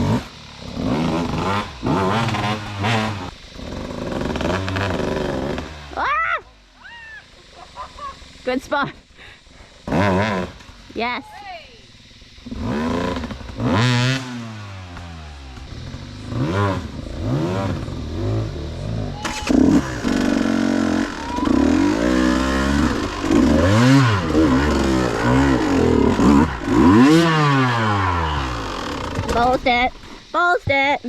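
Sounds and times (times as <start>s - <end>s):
dirt bike engine revving: 0.0s - 6.2s, 7.4s - 11.2s, 12.0s - 30.5s.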